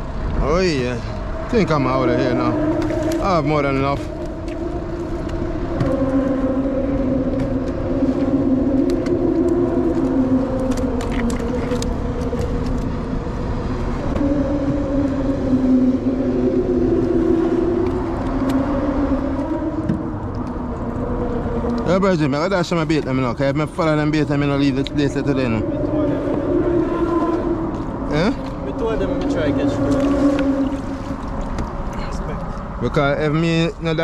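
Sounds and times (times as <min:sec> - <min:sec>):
traffic droning hum: 0:00.0 - 0:34.0.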